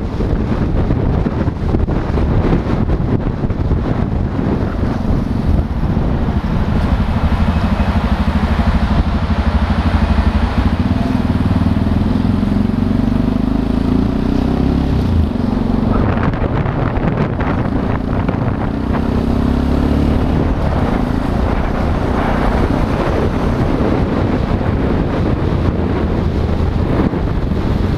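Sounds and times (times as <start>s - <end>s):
motorcycle engine revving: 0.0s - 27.9s
wind noise on microphone: 0.0s - 27.9s.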